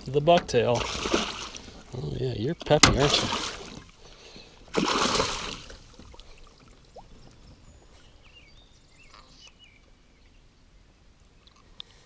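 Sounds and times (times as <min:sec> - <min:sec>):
water trickling and sloshing: 0:00.0 - 0:10.0.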